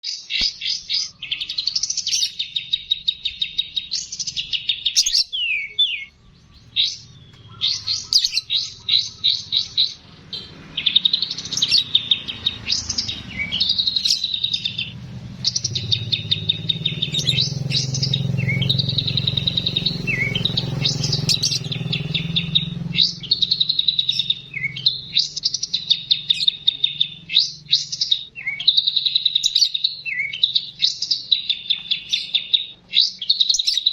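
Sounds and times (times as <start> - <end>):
songbird trilling: 0.0 - 33.9.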